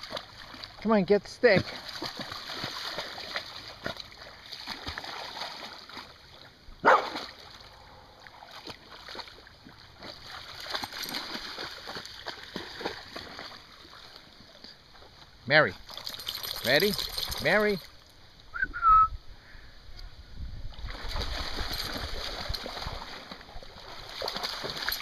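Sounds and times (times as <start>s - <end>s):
dog splashing through water: 0.0s - 14.3s, 15.8s - 17.9s, 20.8s - 25.0s.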